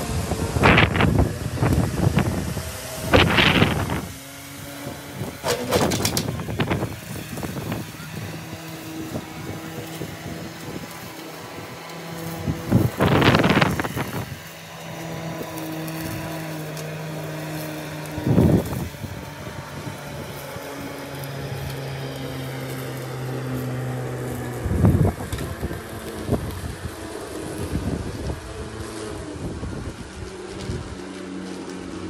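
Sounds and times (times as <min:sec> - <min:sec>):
lawn mower running: 0:00.0 - 0:32.0
loud bursts of noise: 0:00.0 - 0:32.0.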